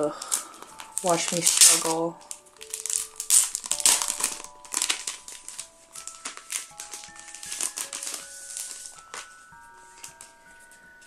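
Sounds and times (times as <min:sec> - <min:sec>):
plastic sleeve crinkling: 0:00.0 - 0:11.0
soft background melody: 0:00.0 - 0:11.0.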